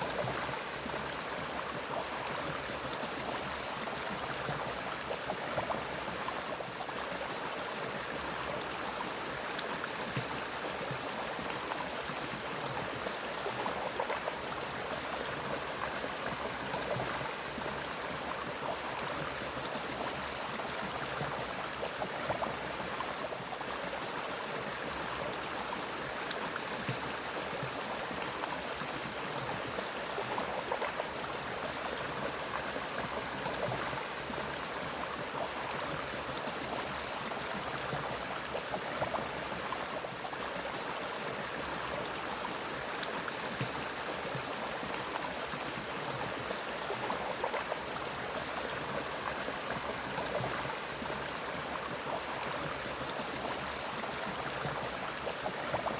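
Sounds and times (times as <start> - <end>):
stream flowing: 0.0 - 55.9.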